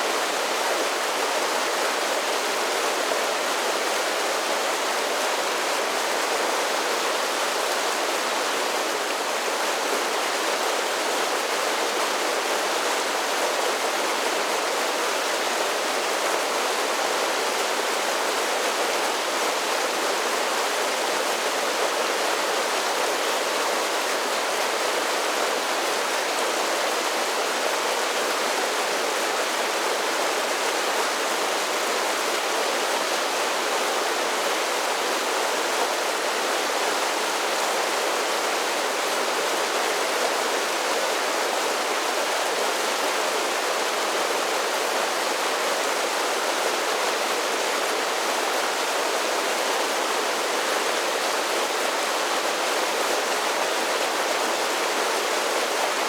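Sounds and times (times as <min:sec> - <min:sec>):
creek water rushing and splashing: 0:00.0 - 0:56.0.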